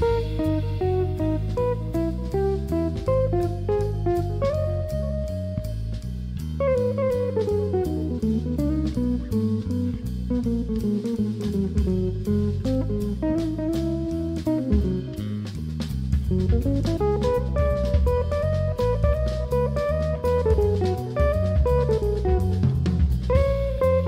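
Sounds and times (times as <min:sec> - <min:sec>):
drum kit with cymbals: 0:00.0 - 0:24.0
electric bass: 0:00.0 - 0:24.0
electric guitar: 0:00.0 - 0:24.0.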